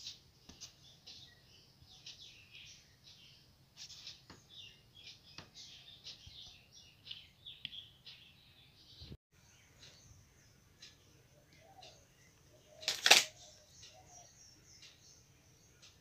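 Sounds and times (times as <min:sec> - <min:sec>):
faint bird chirping: 0:00.0 - 0:16.0.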